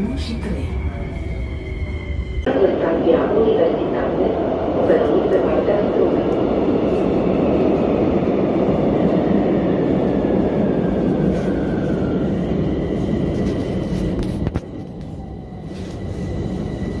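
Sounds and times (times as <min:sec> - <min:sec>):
metro train rumble: 0:00.0 - 0:17.0.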